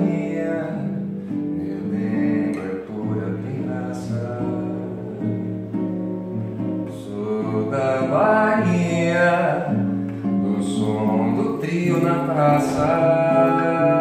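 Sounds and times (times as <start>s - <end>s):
acoustic guitar: 0.0s - 14.0s
person singing with vibrato: 0.0s - 14.0s.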